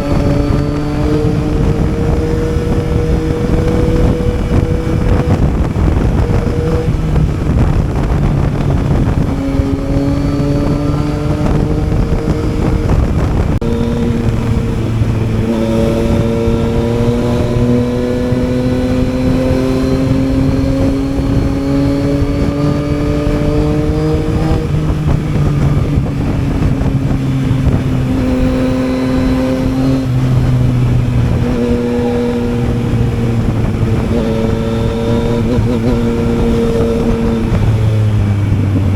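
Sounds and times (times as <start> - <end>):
motorcycle engine under way: 0.0 - 38.9
wind and road noise: 0.0 - 38.9.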